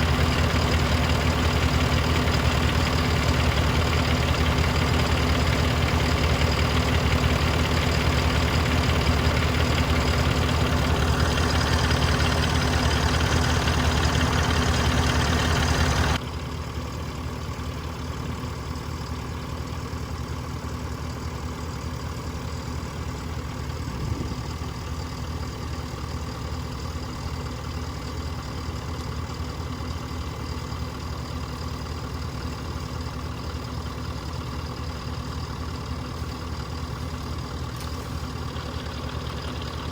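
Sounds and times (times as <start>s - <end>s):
farm machinery engine idling: 0.0s - 39.9s.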